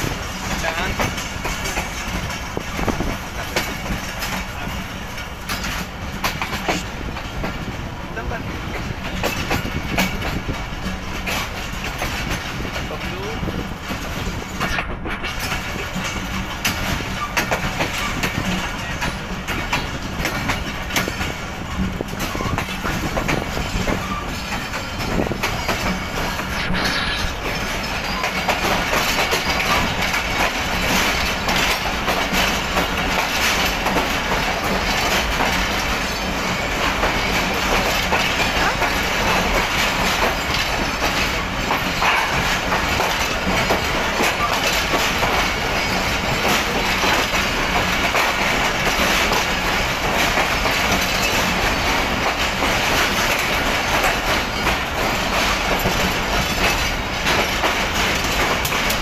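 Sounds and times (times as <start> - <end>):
train wheels rumbling on track: 0.0 - 59.0
wheels clacking over rail joints: 0.0 - 59.0.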